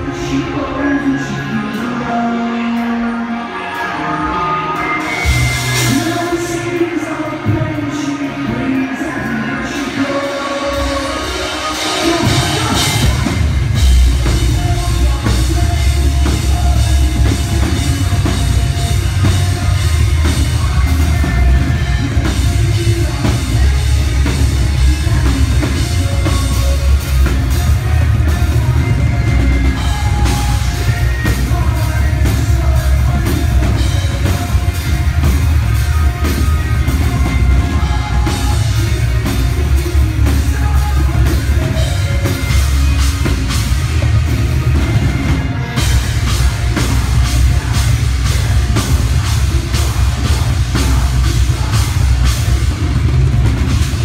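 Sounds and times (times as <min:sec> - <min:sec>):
drum kit: 0:00.0 - 0:54.0
electric guitars and bass: 0:00.0 - 0:54.0
person singing: 0:00.0 - 0:54.0.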